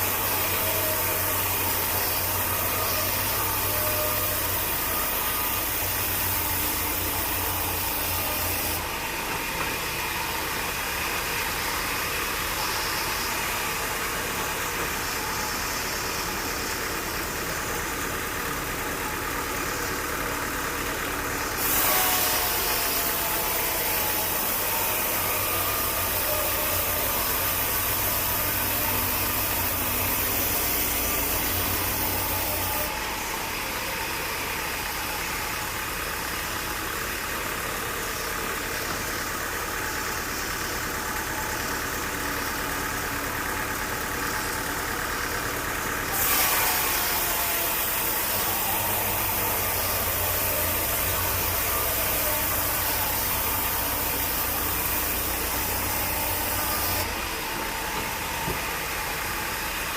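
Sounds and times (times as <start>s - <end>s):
sawmill machinery humming: 0.0s - 59.9s.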